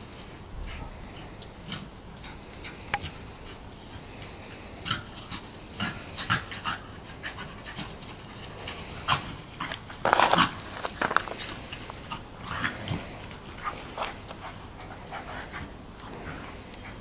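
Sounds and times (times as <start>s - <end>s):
dogs panting: 0.1s - 17.0s
dogs scuffling: 3.1s - 17.0s.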